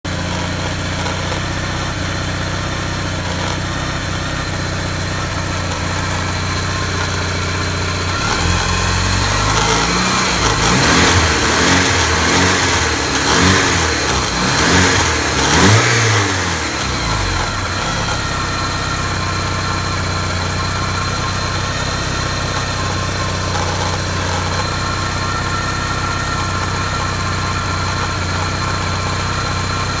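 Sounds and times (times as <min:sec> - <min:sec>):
car engine idling: 0:00.0 - 0:30.0
car engine revving: 0:00.0 - 0:30.0.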